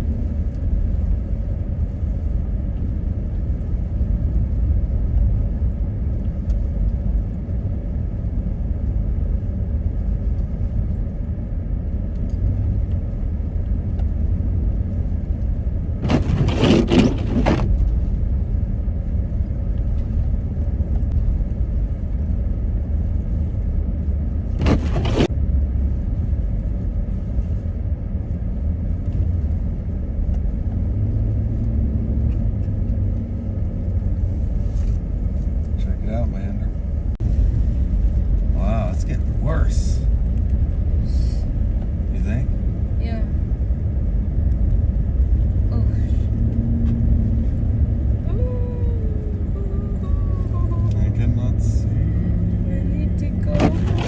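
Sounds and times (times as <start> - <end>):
car rumbling through snow: 0.0 - 54.0.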